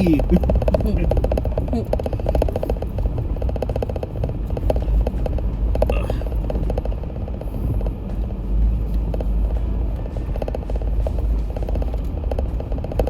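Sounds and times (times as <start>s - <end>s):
body rattles and knocks: 0.0s - 13.0s
vehicle engine rumble: 0.0s - 13.0s.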